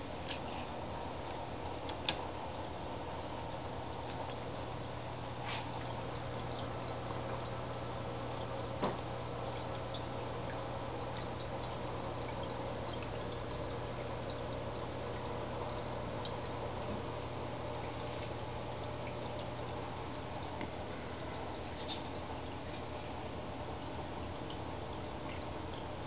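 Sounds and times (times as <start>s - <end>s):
low steady hum: 0.0s - 26.0s
water pouring and trickling: 0.1s - 26.0s.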